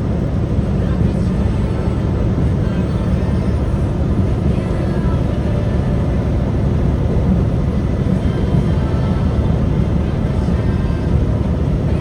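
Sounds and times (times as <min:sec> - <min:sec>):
truck rumbling on road: 0:00.0 - 0:12.0.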